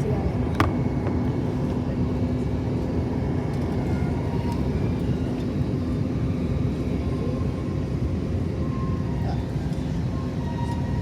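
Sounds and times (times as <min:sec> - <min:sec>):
engine and airflow rumble: 0:00.0 - 0:11.0.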